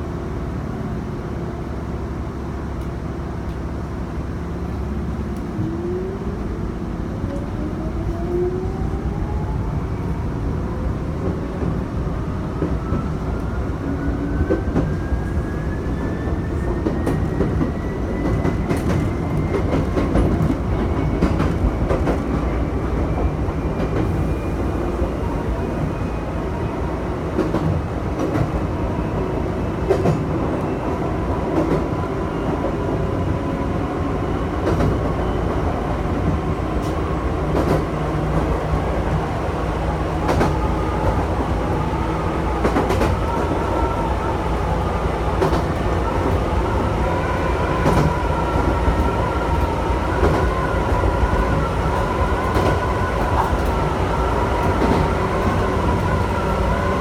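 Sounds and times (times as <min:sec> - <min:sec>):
electric train rumbling and whining: 0:00.0 - 0:57.0.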